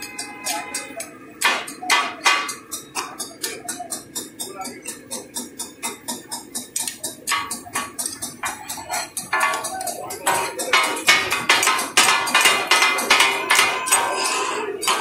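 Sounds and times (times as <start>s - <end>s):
metal blades clanging on griddle: 0.0s - 15.0s.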